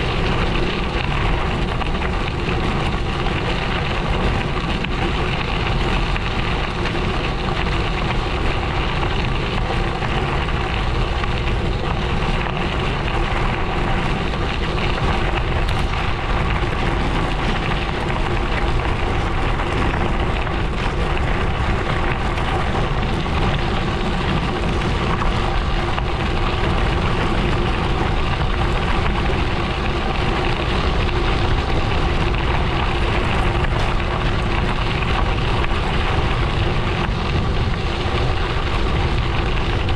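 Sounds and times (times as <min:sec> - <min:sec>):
bike tyres crunching on gravel: 0:00.0 - 0:39.9.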